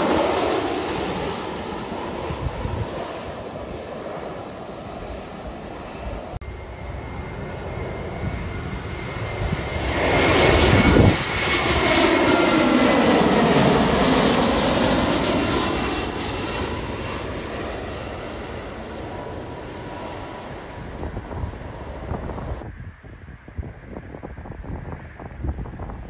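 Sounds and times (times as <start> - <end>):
jet airliner passing overhead: 0.0 - 26.0.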